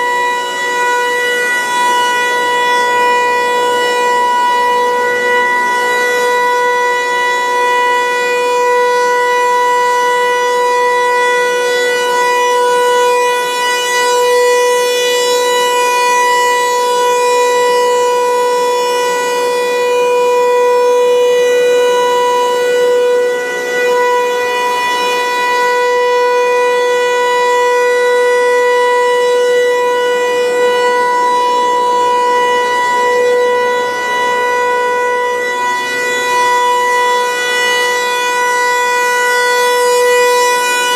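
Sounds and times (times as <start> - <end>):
rotating warning siren: 0.0 - 40.9.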